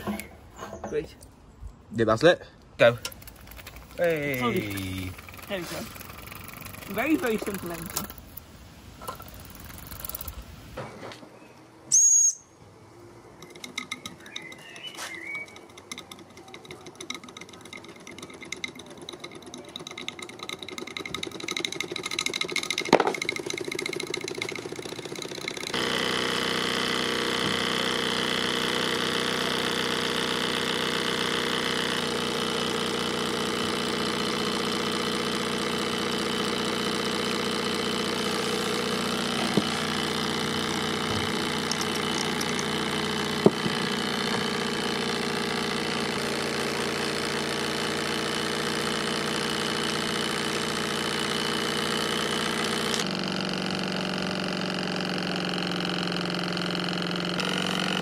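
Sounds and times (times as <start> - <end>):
model steam engine running: 2.8 - 8.4, 9.0 - 10.4, 15.4 - 58.0.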